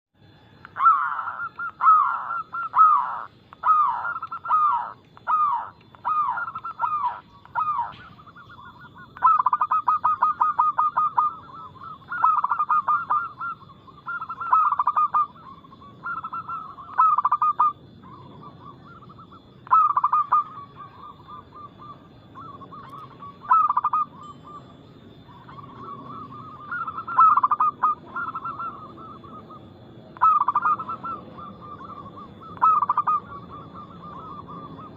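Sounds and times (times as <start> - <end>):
doves cooing and trilling: 0.2 - 34.9.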